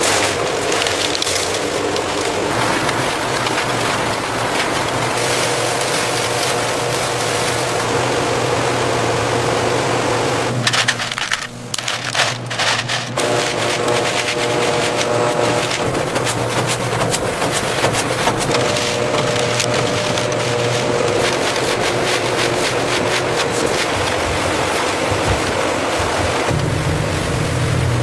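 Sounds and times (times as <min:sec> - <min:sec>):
crackling and crunching: 0:00.0 - 0:08.3, 0:10.4 - 0:26.7
machine hum: 0:00.0 - 0:28.0.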